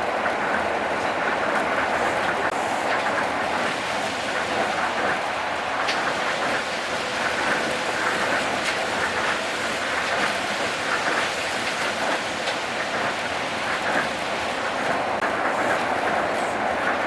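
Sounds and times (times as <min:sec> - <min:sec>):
monorail train hiss and rumble: 0:00.0 - 0:17.0.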